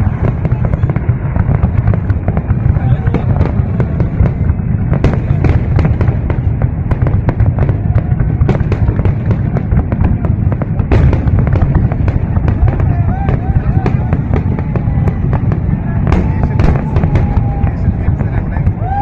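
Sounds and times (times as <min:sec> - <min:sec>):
fireworks cracking and popping: 0:00.0 - 0:19.0
low rumble of booms: 0:00.0 - 0:19.0.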